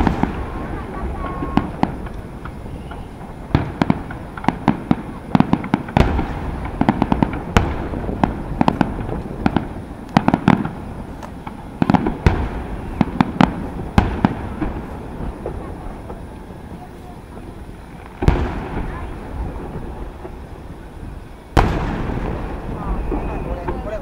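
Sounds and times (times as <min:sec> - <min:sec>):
fireworks bursting: 0:00.0 - 0:24.0
low firework booms: 0:00.0 - 0:24.0.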